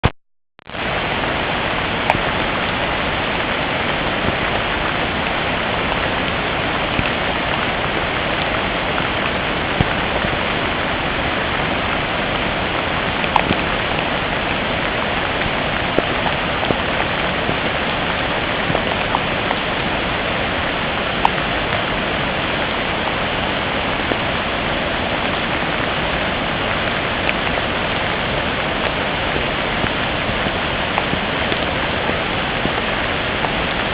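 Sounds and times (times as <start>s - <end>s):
heavy rain hiss: 0.7s - 33.9s.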